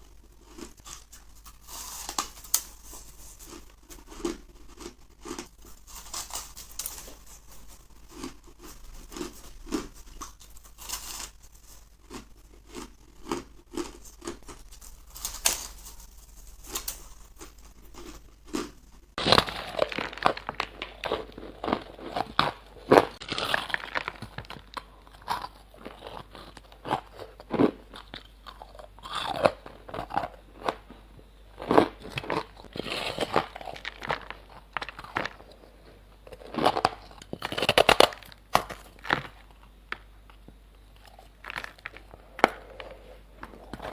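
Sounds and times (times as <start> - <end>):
ice being chewed: 0.0 - 31.0, 31.6 - 43.9.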